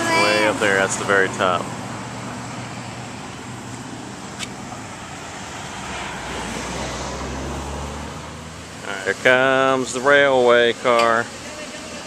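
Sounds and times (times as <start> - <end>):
road traffic noise: 0.0 - 12.0
vehicle low rumble: 0.0 - 12.0.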